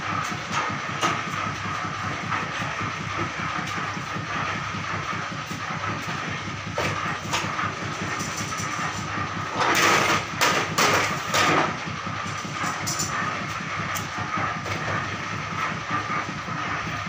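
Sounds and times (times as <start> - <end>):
mechanical rattling and hum: 0.0 - 17.0.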